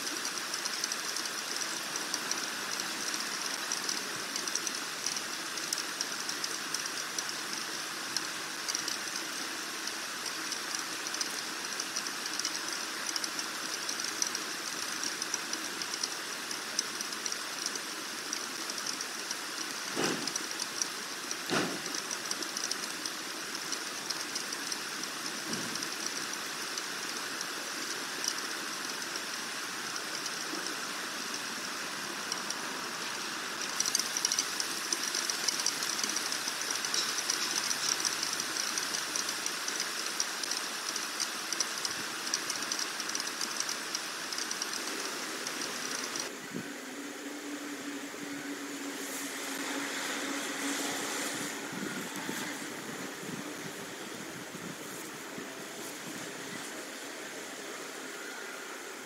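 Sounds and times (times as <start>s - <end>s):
wind hiss on microphone: 0.0s - 46.8s, 48.9s - 59.0s.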